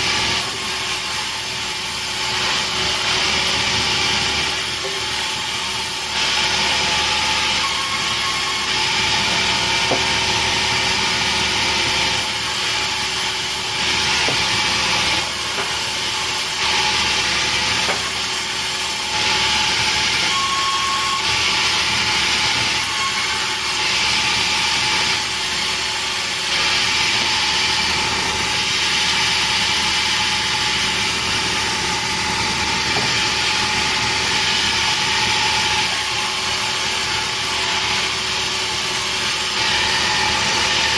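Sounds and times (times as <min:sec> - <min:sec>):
sawmill saw cutting wood: 0:00.0 - 0:40.9.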